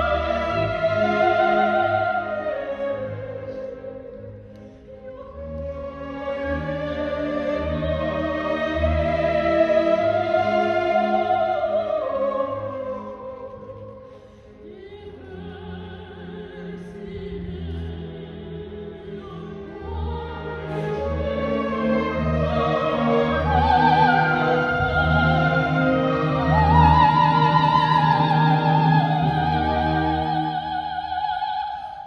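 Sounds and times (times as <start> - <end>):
operatic soprano singing: 0.0 - 32.0
symphony orchestra: 0.0 - 32.0.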